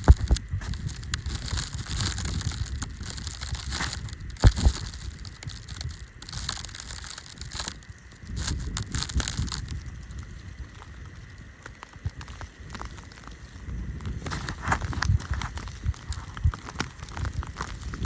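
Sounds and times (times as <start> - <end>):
heavy crunch in snow: 0.0 - 18.0
wind rumble on microphone: 0.0 - 18.0
footsteps crunching in deep snow: 1.4 - 18.0.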